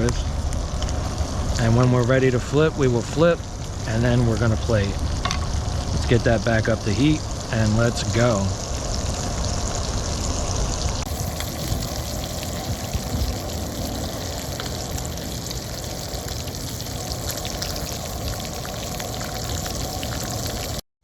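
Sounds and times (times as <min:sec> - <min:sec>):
fish sizzling in hot oil: 0:00.0 - 0:20.8.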